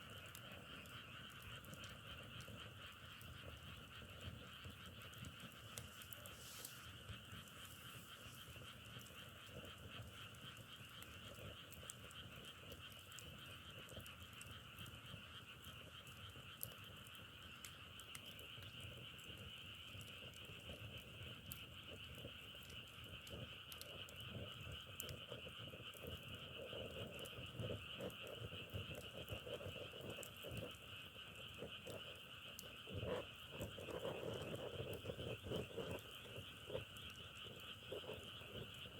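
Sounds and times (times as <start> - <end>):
chorus of frogs calling: 0.0 - 38.9
low loud frog croaks: 0.0 - 38.9
small crackles: 0.0 - 38.9.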